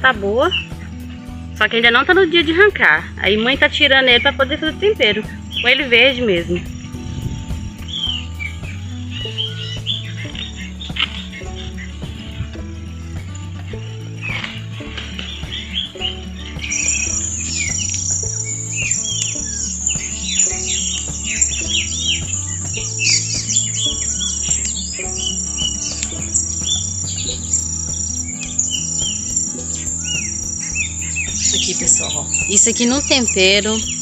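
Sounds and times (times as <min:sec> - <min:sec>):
small birds chirping: 0:00.0 - 0:34.0
insect trilling: 0:02.3 - 0:34.0.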